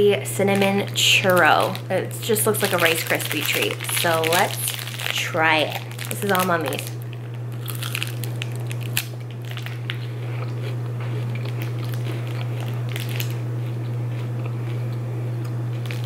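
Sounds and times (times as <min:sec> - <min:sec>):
low hum: 0:00.0 - 0:16.0
crunchy chewing: 0:02.6 - 0:16.0.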